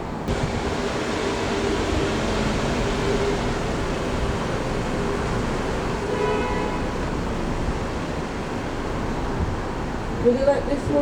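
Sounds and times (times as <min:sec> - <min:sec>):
jet engines rumbling: 0:00.0 - 0:11.0
wind on microphone: 0:00.1 - 0:06.2, 0:06.8 - 0:11.0.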